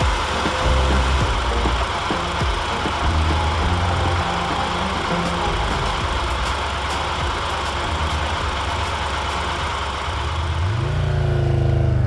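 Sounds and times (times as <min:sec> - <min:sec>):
rushing noise: 0:00.0 - 0:10.9
motorcycle engine running: 0:00.0 - 0:12.0.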